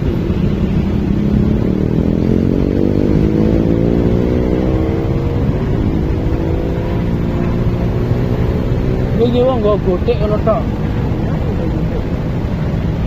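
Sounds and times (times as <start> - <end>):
motorcycle engine accelerating: 0.0 - 13.0
road and wind rumble: 0.0 - 13.0.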